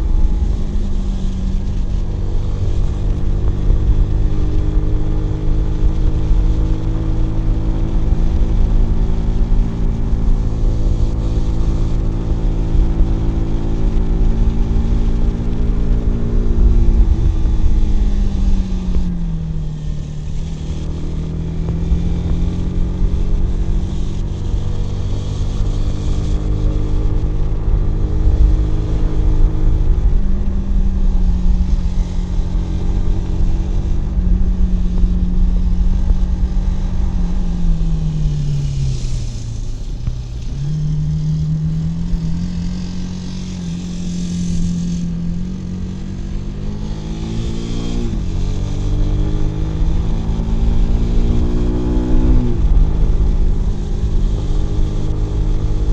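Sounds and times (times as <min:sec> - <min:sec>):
motorcycle engine revving: 0:00.0 - 0:55.9
wind and road noise: 0:00.0 - 0:55.9.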